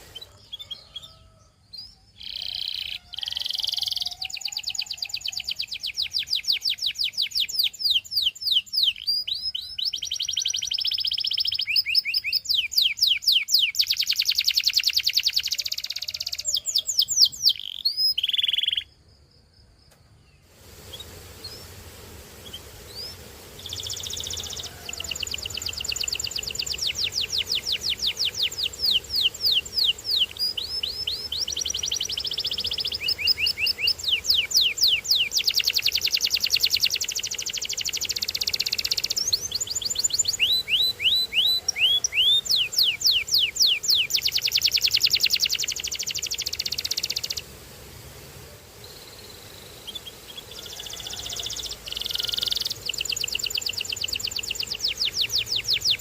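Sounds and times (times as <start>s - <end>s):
canary singing trills: 0.0s - 19.0s, 22.4s - 47.5s, 48.9s - 56.0s.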